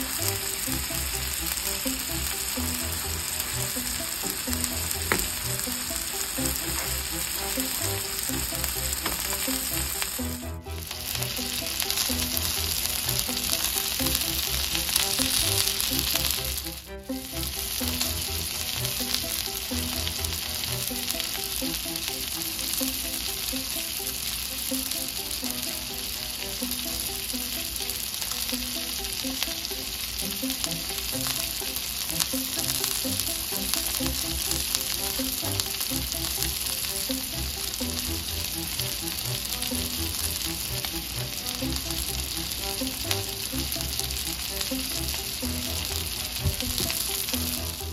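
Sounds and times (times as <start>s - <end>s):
batter sizzling on a griddle: 0.0s - 47.9s.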